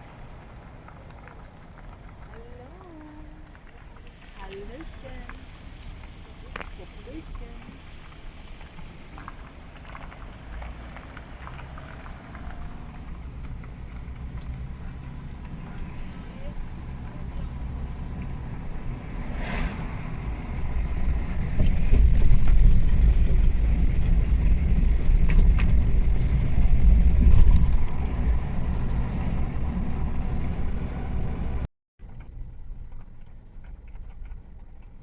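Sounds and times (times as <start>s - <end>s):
wind buffeting microphone: 0.0s - 31.7s
vehicle engine rumbling: 0.0s - 35.0s.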